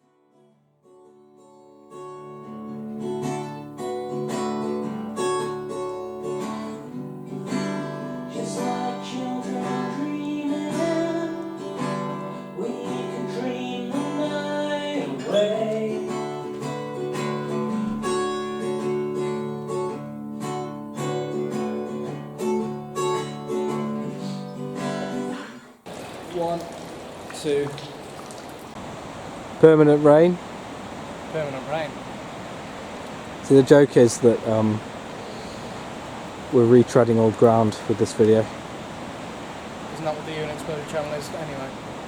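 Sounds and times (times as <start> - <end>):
acoustic guitar chords: 0.0 - 27.7, 28.6 - 42.0.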